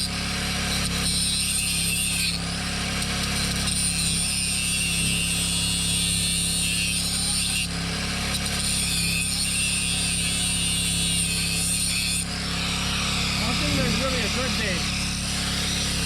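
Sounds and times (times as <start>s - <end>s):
angle grinder on metal: 0.0s - 16.0s.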